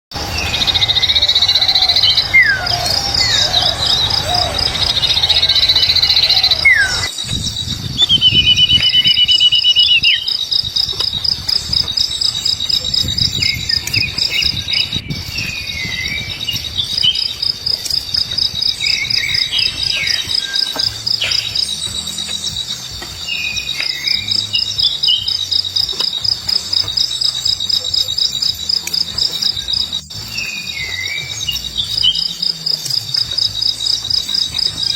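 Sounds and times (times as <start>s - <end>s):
low rumbling noise: 0.0s - 30.5s
birds calling: 0.1s - 34.9s
insect trilling: 0.2s - 34.9s.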